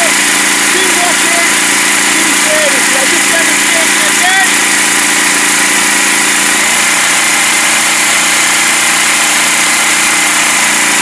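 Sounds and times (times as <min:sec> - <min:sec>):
petrol engine running under load: 0:00.0 - 0:11.0.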